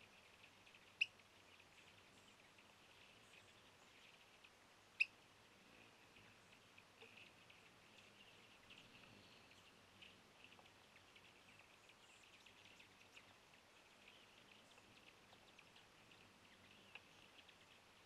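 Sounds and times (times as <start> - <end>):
small birds chipping: 0.0 - 18.0.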